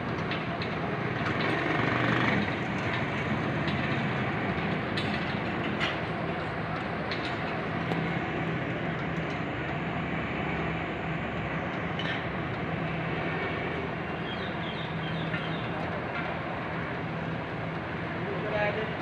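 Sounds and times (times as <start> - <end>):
engine hum: 0.0 - 19.0
street rumble: 0.0 - 19.0.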